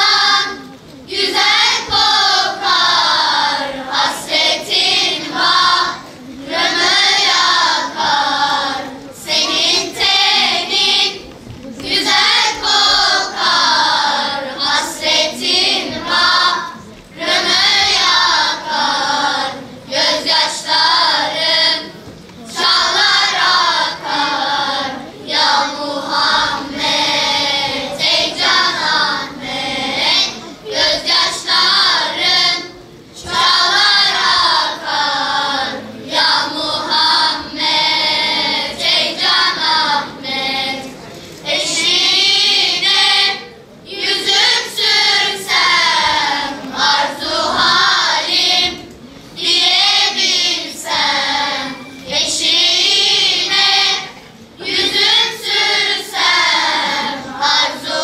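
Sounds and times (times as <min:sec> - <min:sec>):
children's choir singing: 0:00.0 - 0:58.0.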